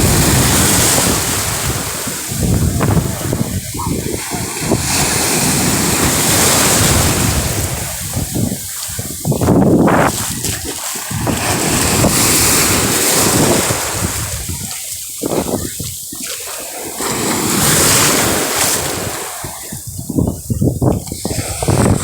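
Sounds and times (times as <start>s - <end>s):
sea waves washing ashore: 0.0s - 22.0s
wind buffeting microphone: 0.0s - 22.0s.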